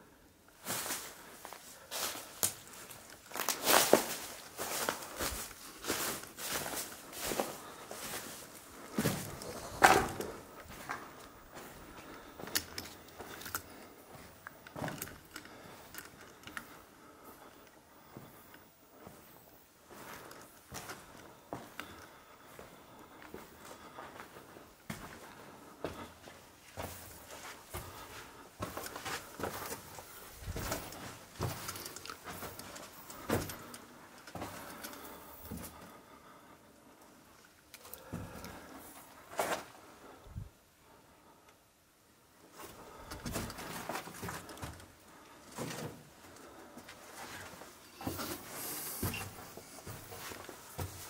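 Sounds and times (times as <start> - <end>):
footsteps clicking and crunching: 0.5 - 36.2, 42.5 - 51.0.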